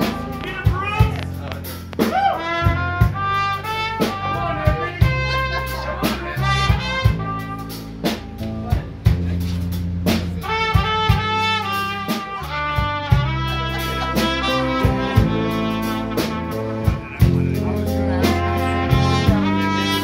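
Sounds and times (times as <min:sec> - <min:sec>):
trumpet melody: 0:00.0 - 0:08.5, 0:10.0 - 0:20.0
drum kit: 0:00.0 - 0:20.0
electric bass guitar: 0:00.0 - 0:20.0.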